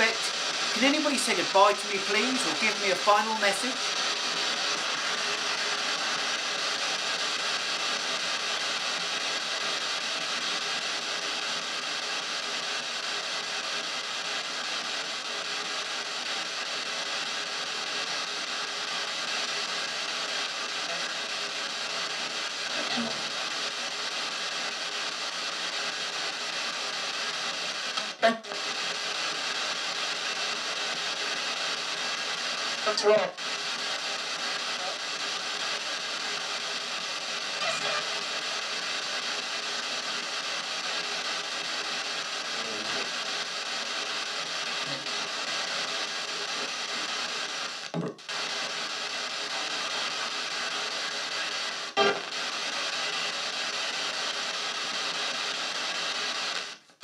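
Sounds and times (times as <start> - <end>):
chopped snatches of radio sound: 0.0 - 10.8, 19.0 - 26.8, 27.5 - 56.9
radio static hiss: 0.0 - 57.0.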